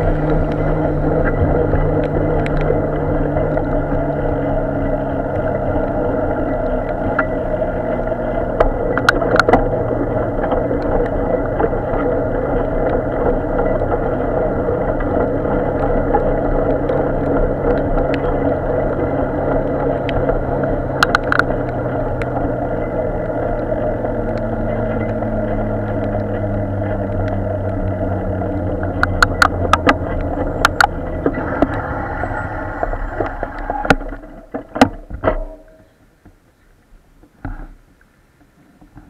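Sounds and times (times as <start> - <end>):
car engines in traffic jam: 0.0 - 39.0.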